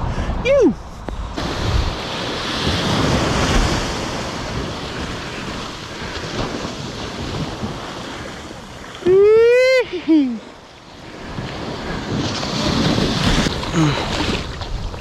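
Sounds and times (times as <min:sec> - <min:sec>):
wind buffeting microphone: 0:00.0 - 0:10.0, 0:11.0 - 0:15.0
ocean waves washing: 0:00.0 - 0:15.0.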